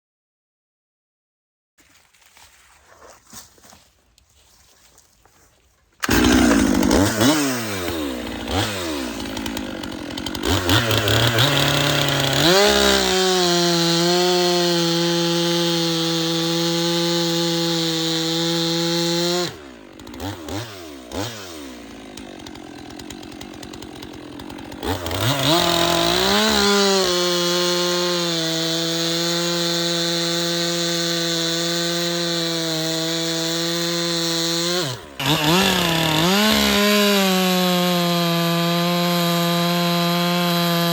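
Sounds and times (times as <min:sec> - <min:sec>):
chainsaw cutting logs: 0:01.9 - 0:40.9.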